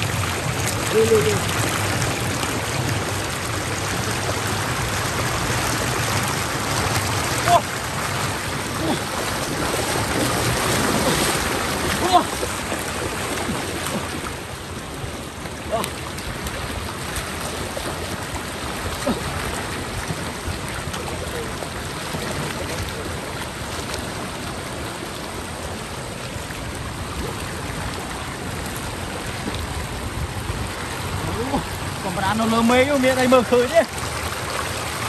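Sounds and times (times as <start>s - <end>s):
rushing floodwater: 0.0s - 35.0s.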